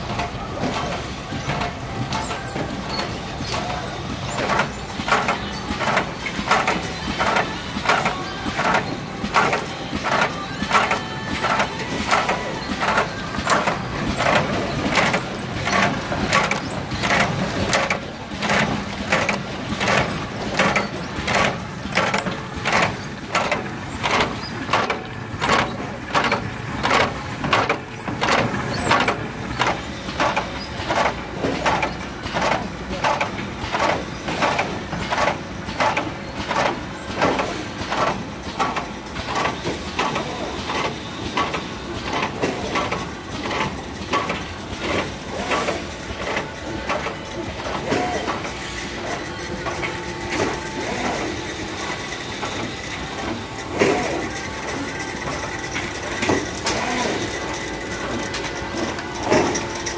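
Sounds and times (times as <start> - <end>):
machine mechanical strokes: 0.0 - 59.9.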